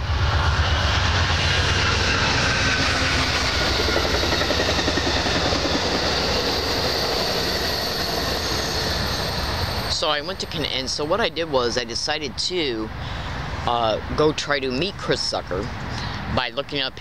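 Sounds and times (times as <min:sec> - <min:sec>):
aircraft passing overhead: 0:00.0 - 0:14.6.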